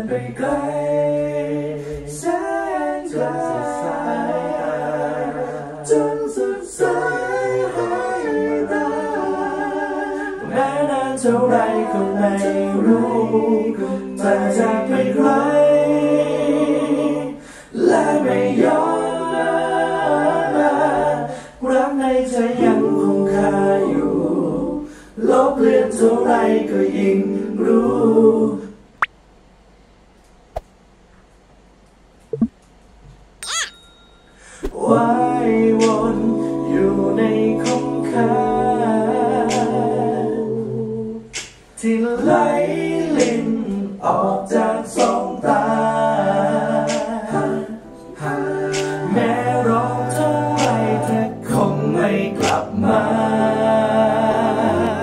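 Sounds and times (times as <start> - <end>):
voices singing in close harmony: 0.0 - 28.8, 34.8 - 55.0.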